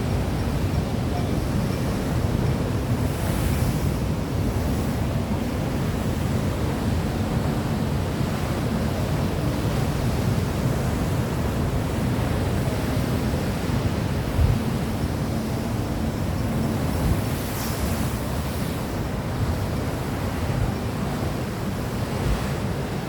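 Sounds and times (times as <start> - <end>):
surf: 0.0 - 23.0
wind: 0.0 - 23.0.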